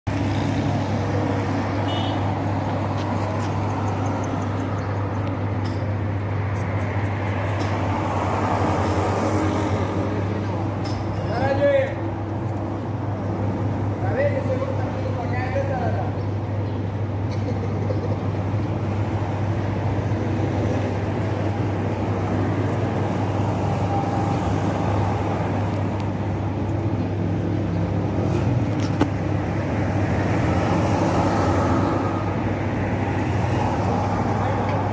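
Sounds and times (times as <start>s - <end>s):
outdoor background noise: 0.1s - 34.9s.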